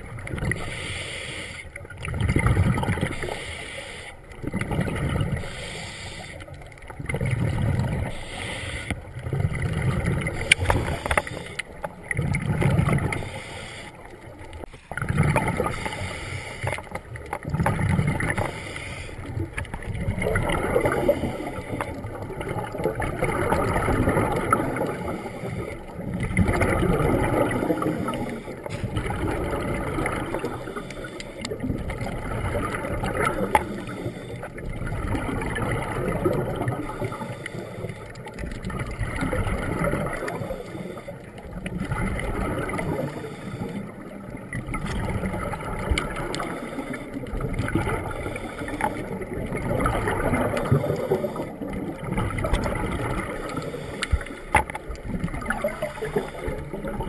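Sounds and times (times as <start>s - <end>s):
muffled underwater water noise: 0.0s - 57.0s.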